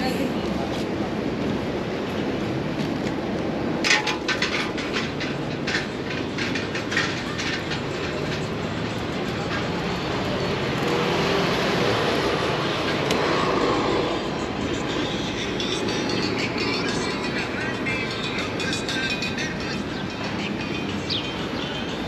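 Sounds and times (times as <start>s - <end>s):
street traffic hum: 0.0s - 22.0s
train clattering on tracks: 0.0s - 22.0s.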